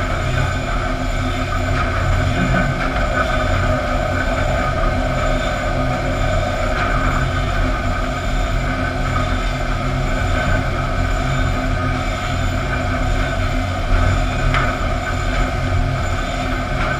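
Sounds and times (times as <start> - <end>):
low motor hum: 0.0 - 16.9.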